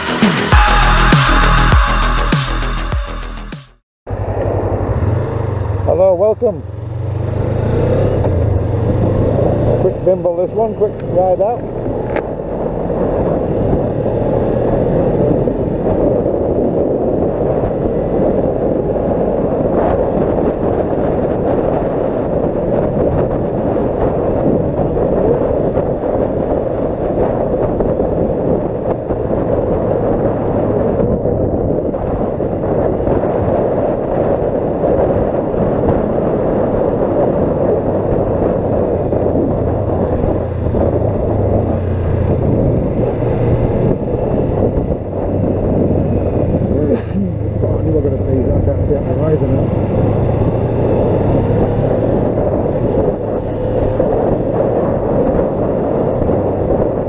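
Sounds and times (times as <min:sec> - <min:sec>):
wind rushing on microphone: 0:04.1 - 0:57.0.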